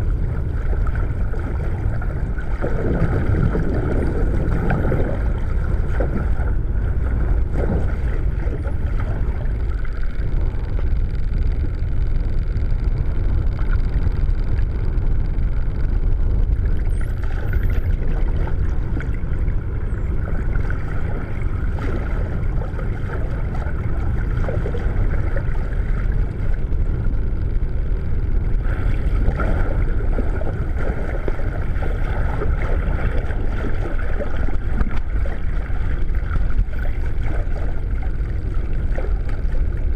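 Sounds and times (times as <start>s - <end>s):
faint steady hum: 0.0s - 39.9s
underwater water rush: 0.0s - 39.9s.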